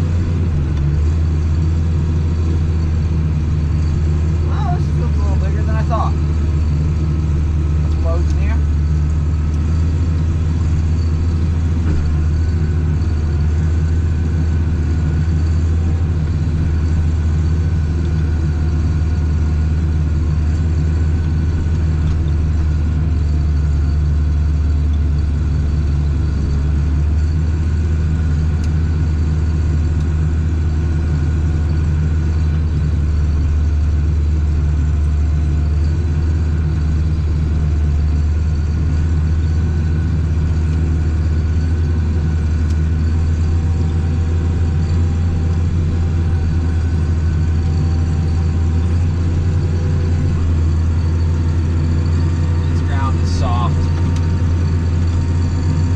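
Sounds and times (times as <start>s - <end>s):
forage harvester running: 0.0s - 55.9s
tractor engine drone: 0.0s - 55.9s.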